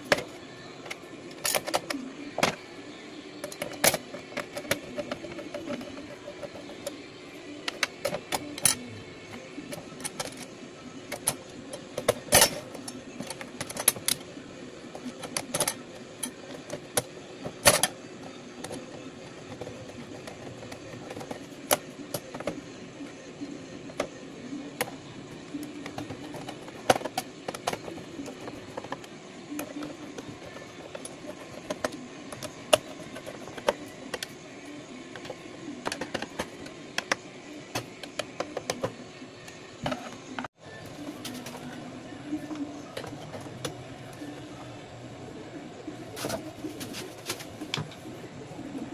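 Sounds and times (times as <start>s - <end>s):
low background hum: 0.0s - 48.9s.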